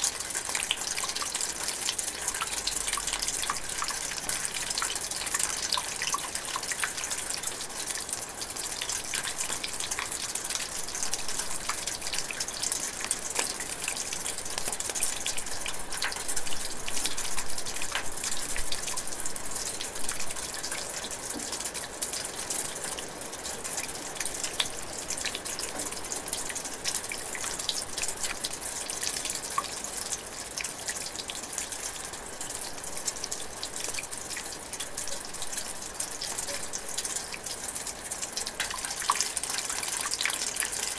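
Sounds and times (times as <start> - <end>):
light rain falling: 0.0 - 40.9
small drips and patters: 0.0 - 40.9.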